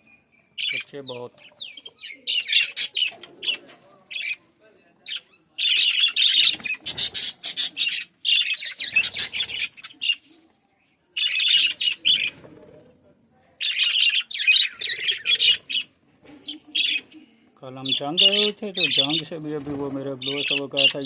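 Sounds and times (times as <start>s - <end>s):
budgerigars chirping: 0.0s - 4.4s, 5.0s - 10.5s, 11.2s - 12.4s, 13.6s - 21.0s.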